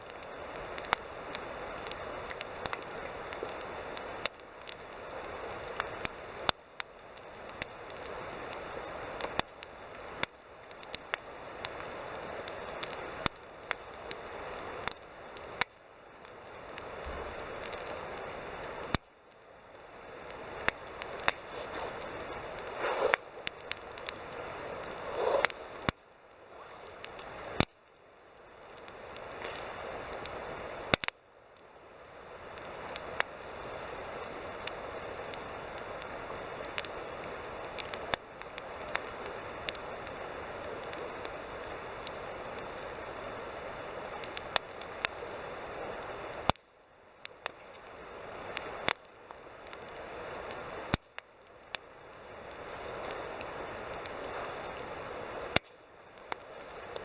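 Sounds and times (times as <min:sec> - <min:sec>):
campfire crackling and popping: 0:00.0 - 0:57.0
hiss of burning: 0:00.0 - 0:57.0.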